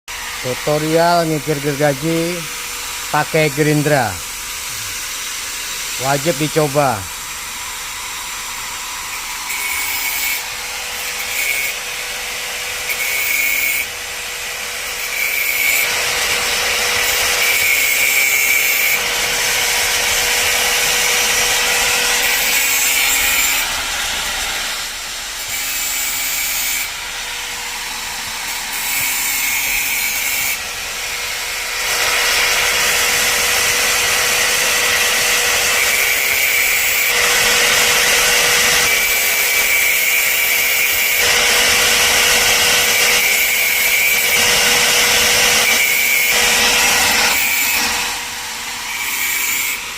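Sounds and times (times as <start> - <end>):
angle grinder whining: 0.1 - 49.9
grinder disc rasping on saw teeth: 0.4 - 7.1, 9.1 - 12.0, 12.8 - 13.9, 14.8 - 24.7, 25.4 - 27.0, 27.7 - 30.6, 31.8 - 49.9.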